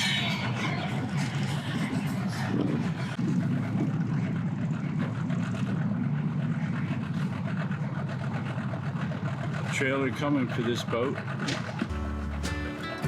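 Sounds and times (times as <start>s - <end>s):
engine running at low revs: 0.0s - 13.0s.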